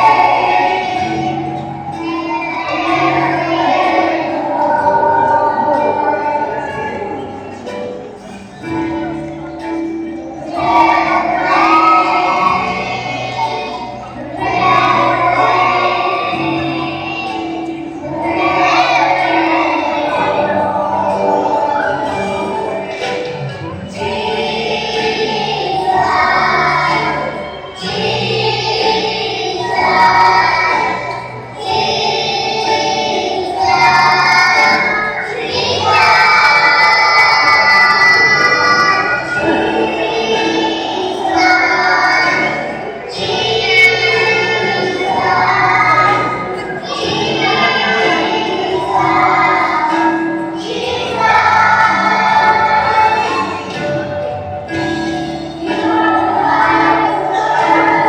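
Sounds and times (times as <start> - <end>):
young children singing in chorus: 0.0 - 58.0.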